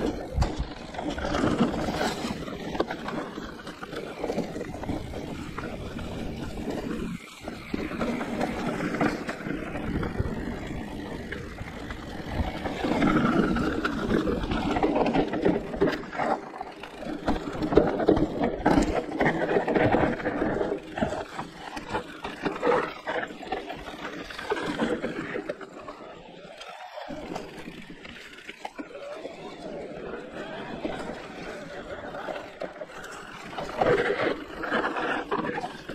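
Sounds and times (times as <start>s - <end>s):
bike rattling and knocking: 0.0s - 25.8s, 27.1s - 35.9s
tyres rumbling on trail: 0.0s - 35.9s.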